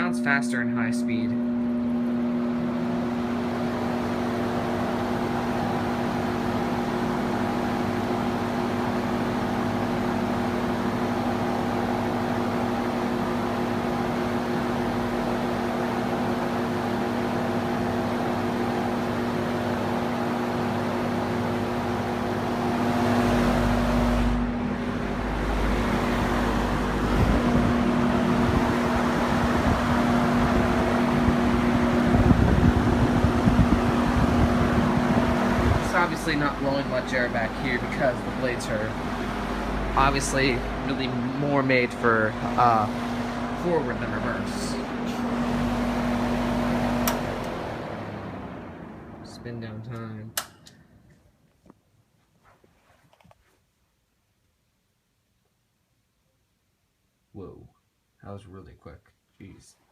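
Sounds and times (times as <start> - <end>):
box fan running: 0.0 - 51.8.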